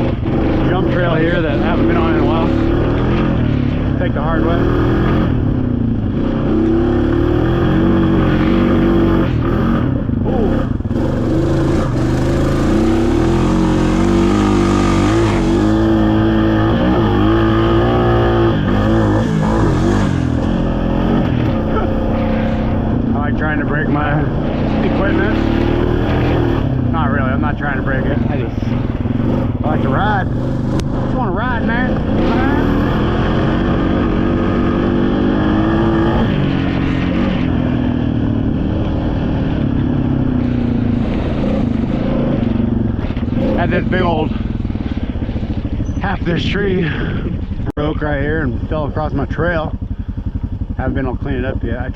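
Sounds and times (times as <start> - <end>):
quad engine revving under load: 0.0 - 51.9.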